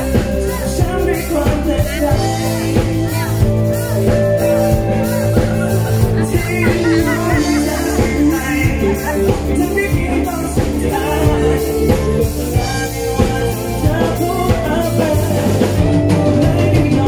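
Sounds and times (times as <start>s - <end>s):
live pop band through speakers: 0.0s - 17.0s
man singing into microphone: 0.0s - 17.0s
steady drum beat: 0.0s - 17.0s.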